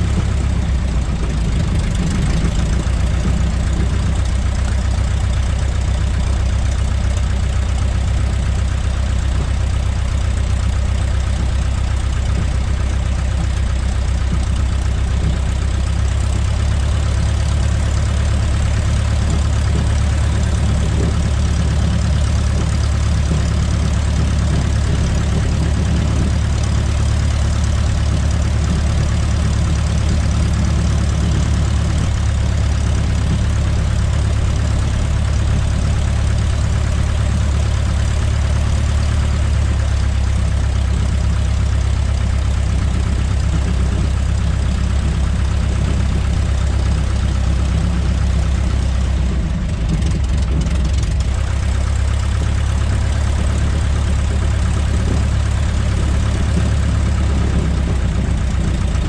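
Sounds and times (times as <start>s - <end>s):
light aircraft engine idling: 0.0s - 59.0s.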